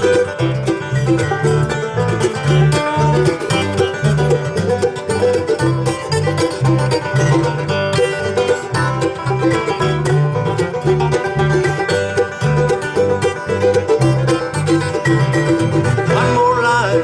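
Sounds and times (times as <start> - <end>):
plucked string picking: 0.0 - 17.0
steady bass line: 0.0 - 17.0.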